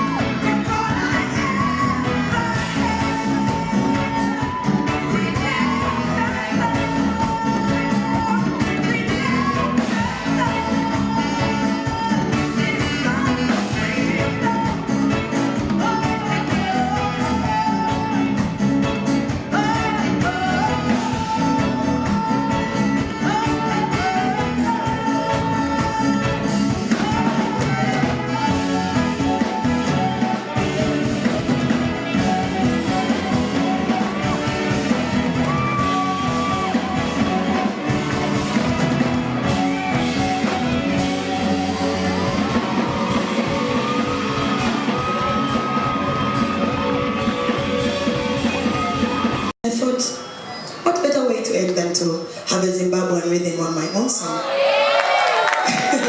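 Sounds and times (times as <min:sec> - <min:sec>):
woman singing: 0:00.0 - 0:49.0
afro-soul band playing: 0:00.0 - 0:49.6.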